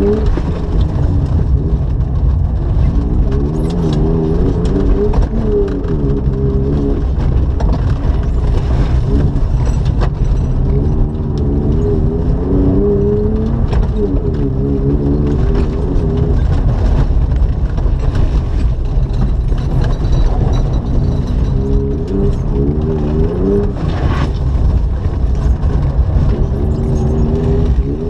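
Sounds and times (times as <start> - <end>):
car engine revving: 0.0 - 28.0
gravel hitting car: 0.0 - 28.0.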